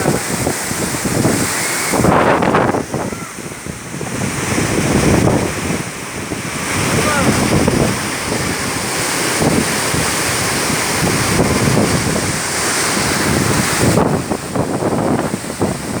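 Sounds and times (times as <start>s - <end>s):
waterfall rushing: 0.0s - 16.0s
wind buffeting microphone: 0.0s - 16.0s.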